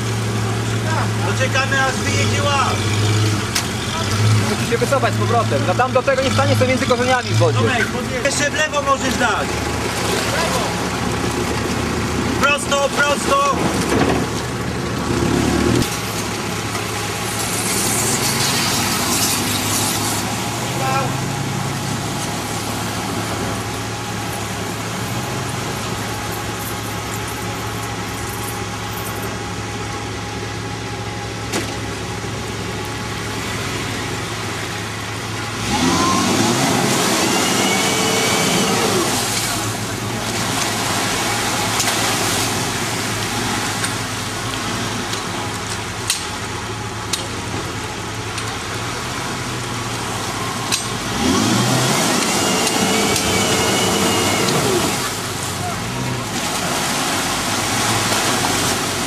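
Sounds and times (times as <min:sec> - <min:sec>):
engine revving: 0:00.0 - 0:16.4, 0:17.0 - 0:29.2, 0:33.1 - 0:43.9, 0:50.2 - 0:59.0
off-road engines running low: 0:00.0 - 0:59.0.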